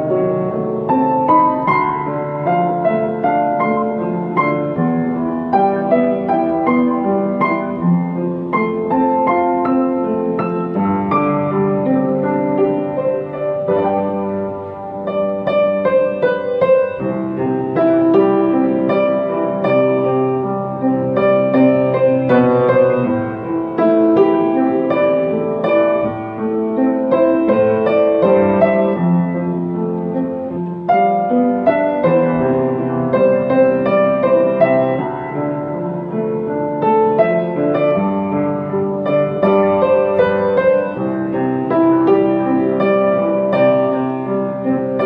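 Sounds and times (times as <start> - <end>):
solo piano ballad: 0.0 - 45.0.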